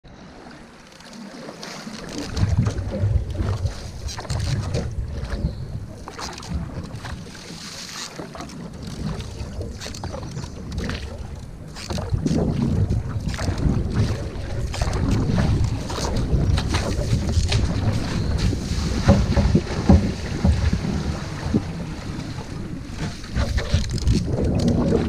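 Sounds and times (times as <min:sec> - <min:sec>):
paddle strokes splashing in water: 0:00.2 - 0:25.0
wind noise on microphone: 0:02.2 - 0:07.3, 0:08.8 - 0:25.0.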